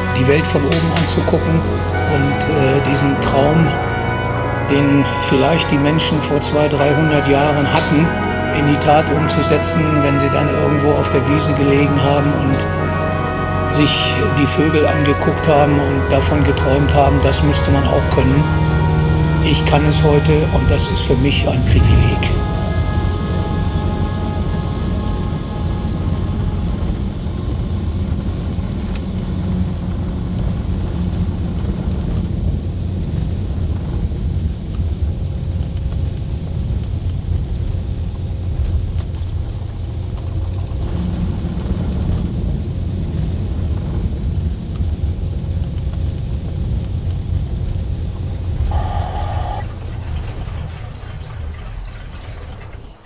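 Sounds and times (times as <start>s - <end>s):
airplane engine rumbling: 0.0s - 53.0s.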